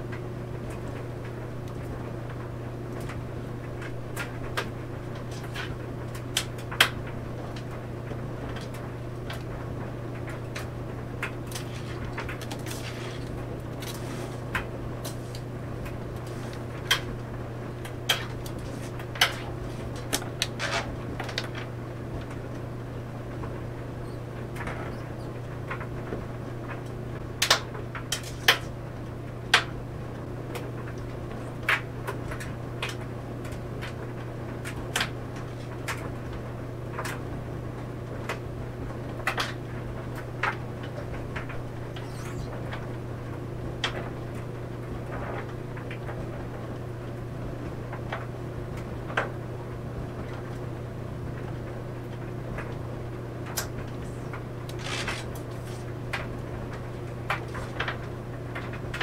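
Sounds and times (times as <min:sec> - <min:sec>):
clothes dryer humming: 0:00.0 - 0:59.0.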